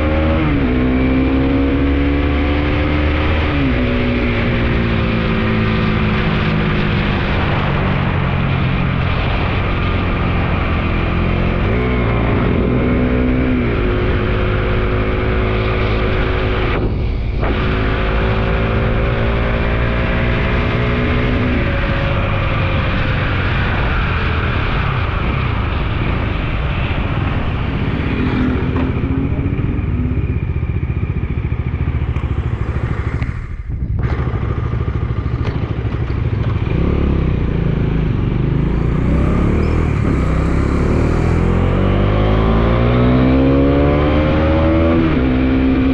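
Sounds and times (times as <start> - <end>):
motorcycle engine running: 0.0 - 42.6.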